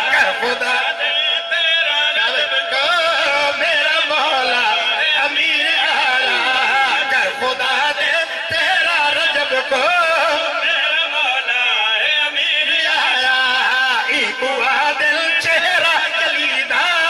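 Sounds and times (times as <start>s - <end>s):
men chanting into a microphone: 0.0s - 17.0s.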